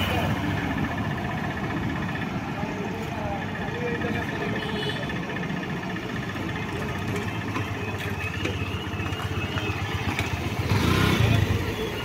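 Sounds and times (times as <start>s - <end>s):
diesel train engines rumbling: 0.0s - 12.0s.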